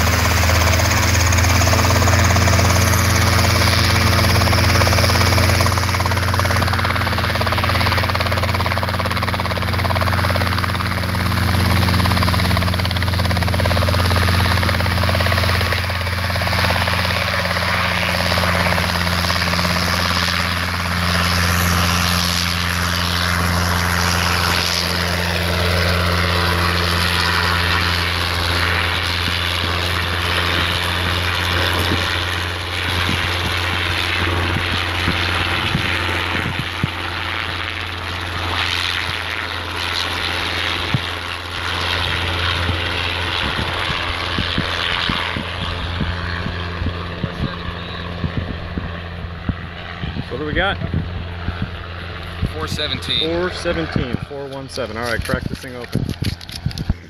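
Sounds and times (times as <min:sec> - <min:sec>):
helicopter rotor and engine drone: 0:00.0 - 0:57.0.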